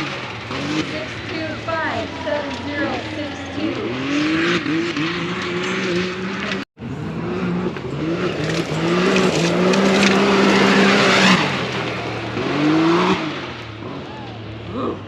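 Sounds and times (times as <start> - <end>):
race vehicle engine accelerating: 0.0 - 15.0.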